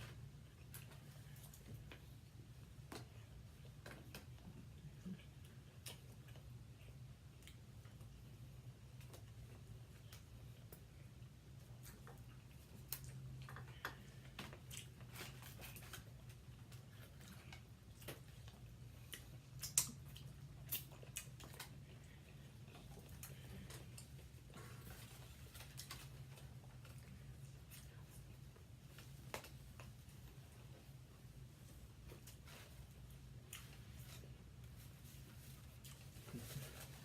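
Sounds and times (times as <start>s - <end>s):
faint chewing: 0.0s - 37.0s.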